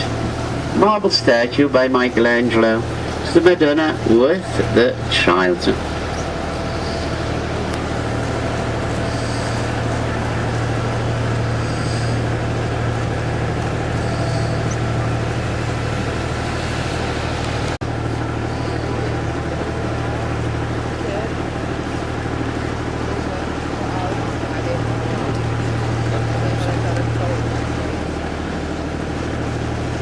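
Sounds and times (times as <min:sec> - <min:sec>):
boat motor drone: 0:00.0 - 0:30.0.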